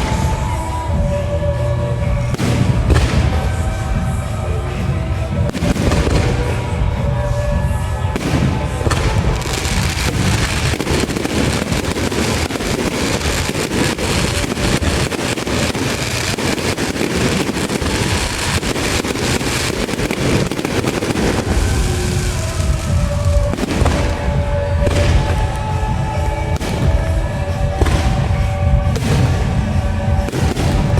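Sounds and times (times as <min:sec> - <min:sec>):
fireworks crackling and banging: 0:00.0 - 0:30.9
procession music: 0:00.0 - 0:30.9.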